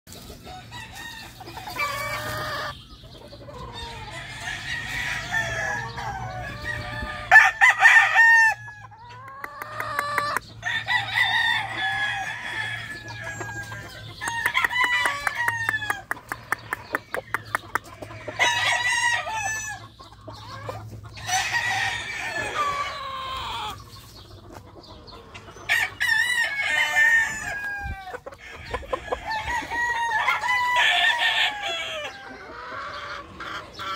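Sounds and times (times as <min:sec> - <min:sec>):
chickens clucking: 0:00.1 - 0:33.9
roosters crowing: 0:00.1 - 0:33.9.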